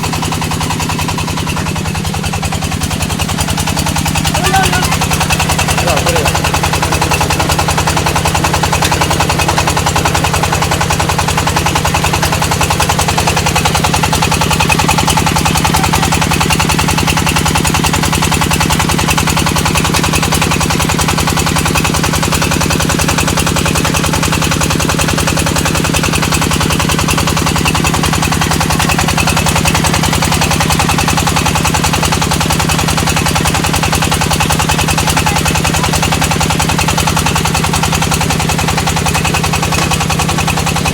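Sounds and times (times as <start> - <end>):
press machine rattling: 0.2 - 22.3, 26.4 - 40.9.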